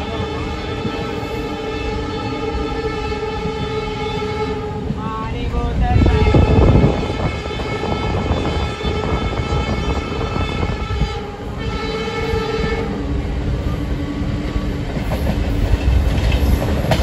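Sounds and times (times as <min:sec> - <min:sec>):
train horn: 0:00.0 - 0:14.7
train wheels rumbling on track: 0:00.0 - 0:17.0.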